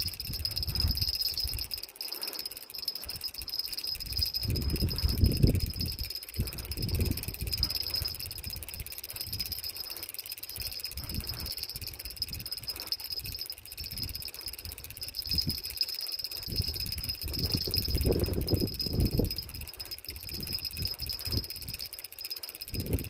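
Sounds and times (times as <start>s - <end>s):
night insects chirring: 0.0s - 23.0s.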